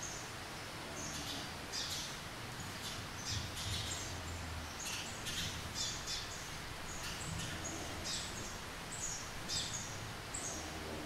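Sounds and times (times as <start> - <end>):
rain hiss: 0.0 - 11.0
sparrow chirping: 1.0 - 10.6.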